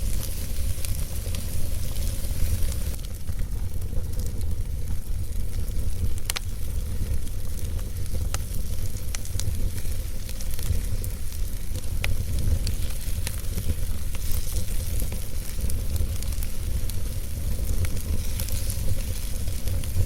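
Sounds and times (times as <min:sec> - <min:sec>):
fire rumbling and hissing: 0:00.0 - 0:20.0
logs crackling and popping: 0:00.0 - 0:20.0.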